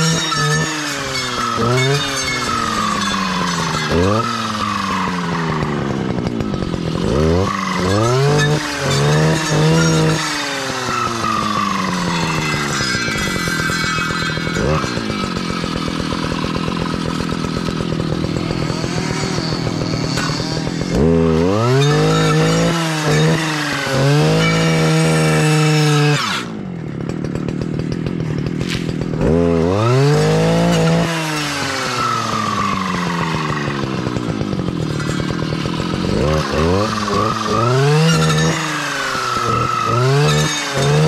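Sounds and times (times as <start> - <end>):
clearing saw engine idling and revving: 0.0 - 41.0.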